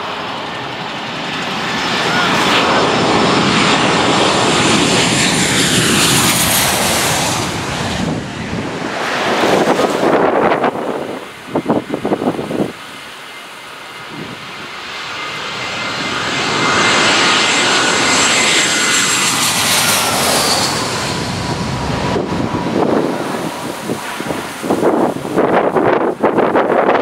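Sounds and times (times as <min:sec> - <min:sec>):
jet airliner passing overhead: 0:00.0 - 0:27.0
wind buffeting microphone: 0:02.2 - 0:13.0, 0:13.9 - 0:27.0.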